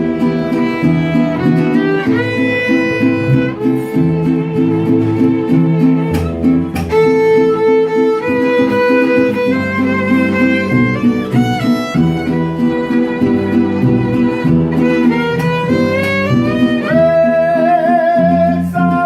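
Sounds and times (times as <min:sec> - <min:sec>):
bass notes: 0:00.0 - 0:19.0
strummed guitar chords: 0:00.0 - 0:19.0
violin melody: 0:00.0 - 0:19.0.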